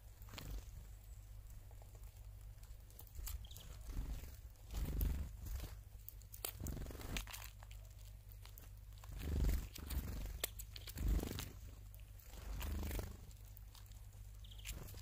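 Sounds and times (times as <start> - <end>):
birds pecking and cracking seeds: 0.0 - 15.0
steady low hum: 0.0 - 15.0.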